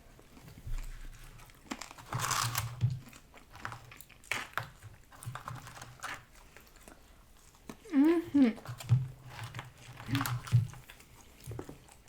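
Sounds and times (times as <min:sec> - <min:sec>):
chewing and crunching fries: 0:00.0 - 0:12.0.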